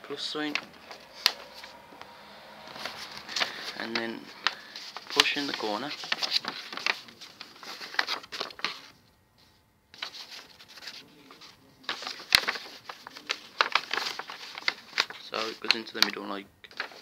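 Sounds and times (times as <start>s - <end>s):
paper rustling and crinkling: 0.3s - 17.0s.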